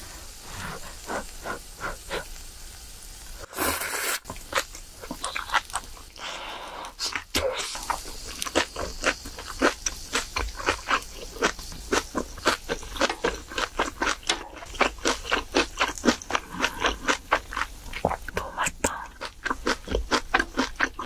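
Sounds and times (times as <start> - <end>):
crunchy chewing: 3.5 - 21.0.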